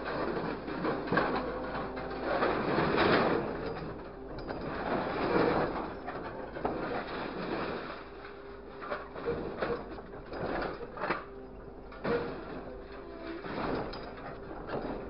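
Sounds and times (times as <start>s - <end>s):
hydraulic pump whining hum: 0.0s - 15.0s
metallic clanks of scrap metal: 0.0s - 15.0s.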